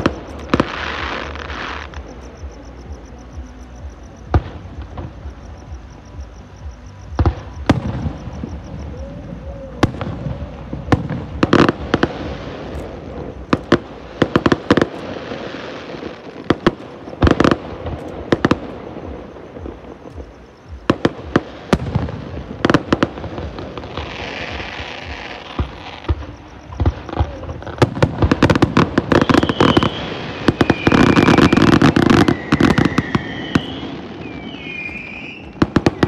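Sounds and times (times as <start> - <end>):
fireworks bangs: 0.0 - 3.4, 6.9 - 36.0
fireworks crackling hiss: 0.0 - 36.0.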